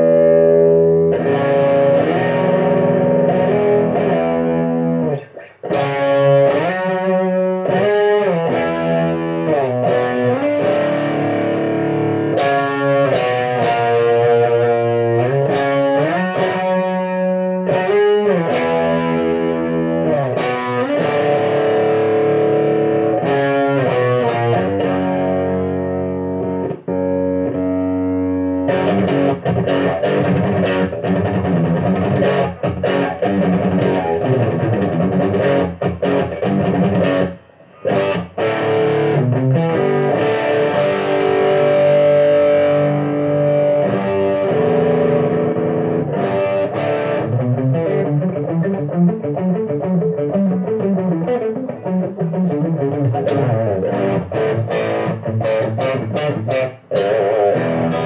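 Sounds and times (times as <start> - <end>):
electric guitar chords and notes: 0.0 - 58.0.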